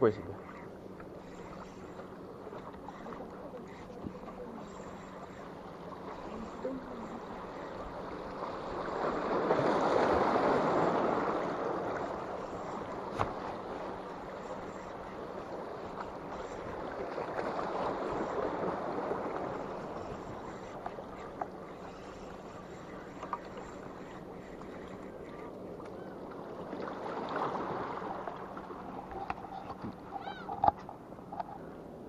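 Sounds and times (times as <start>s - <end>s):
sea water washing: 0.0s - 32.0s.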